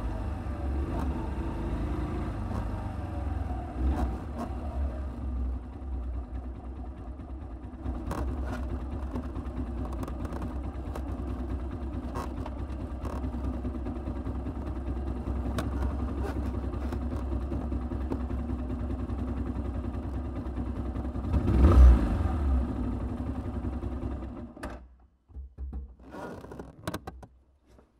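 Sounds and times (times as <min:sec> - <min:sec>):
motorcycle engine revving: 0:00.0 - 0:05.9, 0:07.4 - 0:24.5
motorcycle engine running: 0:00.0 - 0:24.6.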